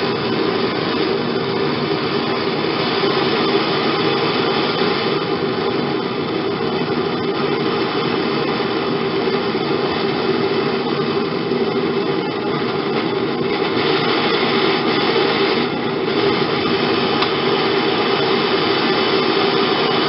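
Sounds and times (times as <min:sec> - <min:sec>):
hand torch flame rushing: 0:00.0 - 0:20.0.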